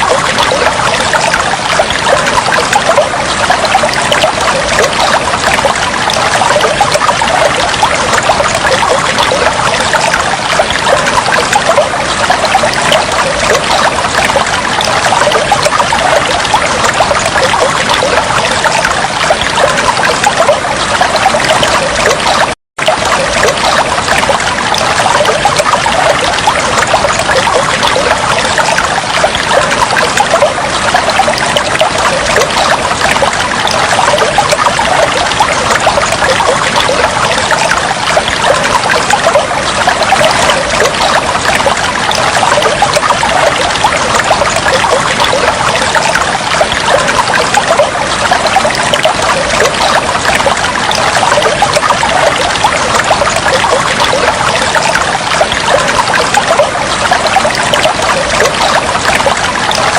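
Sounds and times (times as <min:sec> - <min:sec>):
babbling flowing water: 0:00.0 - 0:59.9.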